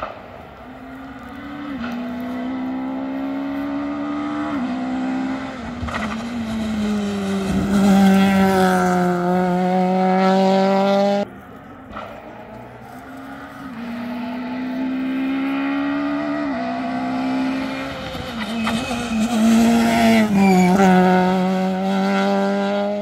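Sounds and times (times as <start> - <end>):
rally car engine passing by: 0.0 - 23.0.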